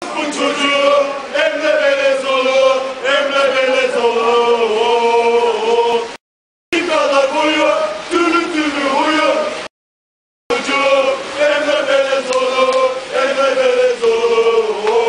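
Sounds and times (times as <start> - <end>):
men chanting together: 0.0 - 6.2, 6.8 - 9.7, 10.5 - 15.0.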